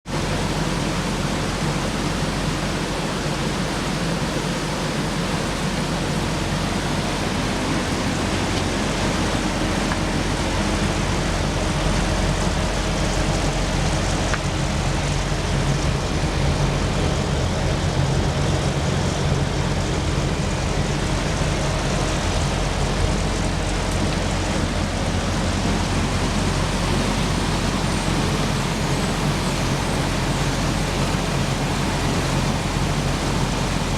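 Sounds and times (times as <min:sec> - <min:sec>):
heat pump air rush and hum: 0:00.0 - 0:33.9.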